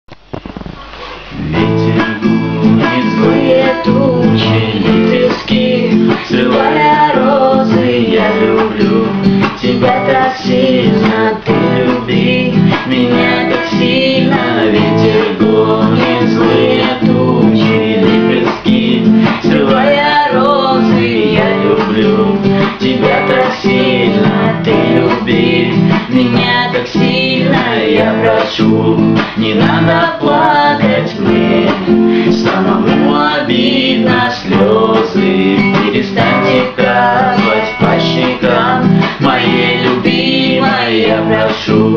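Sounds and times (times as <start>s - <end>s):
acoustic guitar strumming melody: 0.2s - 41.9s.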